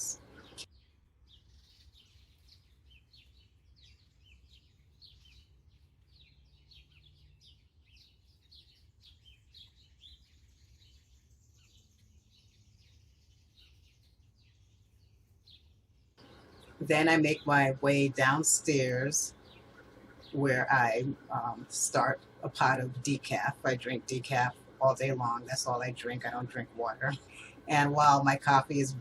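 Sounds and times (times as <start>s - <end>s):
low steady hum: 0.0s - 29.0s
small birds chirping: 0.0s - 29.0s.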